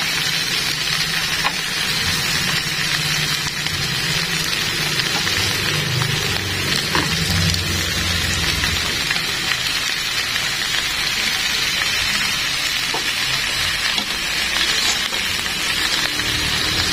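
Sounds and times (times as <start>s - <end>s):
meat sizzling in a grill pan: 0.0s - 16.9s.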